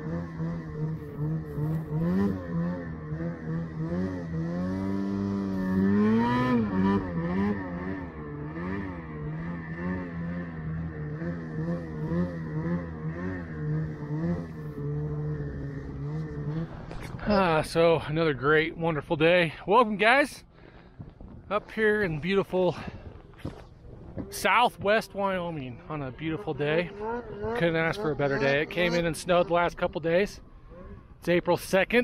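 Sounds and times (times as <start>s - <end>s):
snowmobile engine revving: 0.0s - 20.9s, 21.5s - 32.0s.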